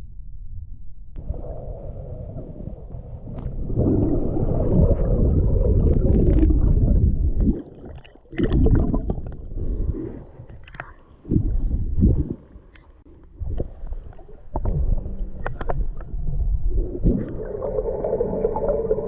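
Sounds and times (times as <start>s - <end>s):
muffled gurgling bubbling water: 0.4s - 19.0s.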